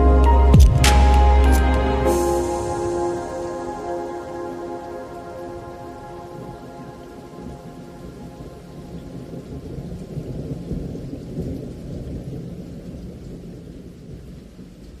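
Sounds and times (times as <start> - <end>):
low rolling thunder: 0.0 - 15.0
rain hiss: 0.0 - 15.0.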